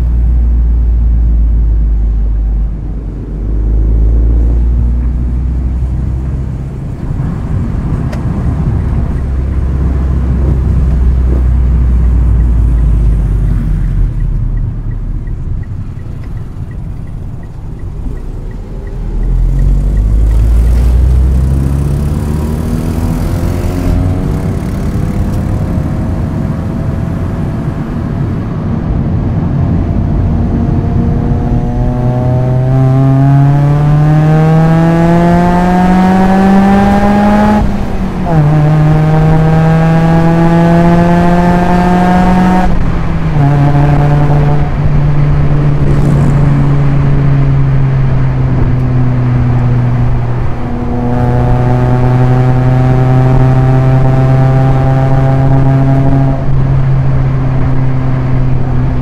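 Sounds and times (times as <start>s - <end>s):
car engine revving through exhaust: 0.0s - 59.0s.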